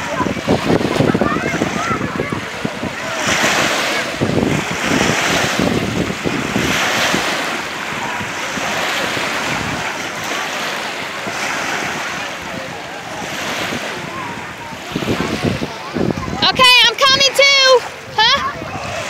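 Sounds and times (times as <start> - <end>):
waves breaking on shore: 0.0 - 19.0
wind on microphone: 0.0 - 19.0.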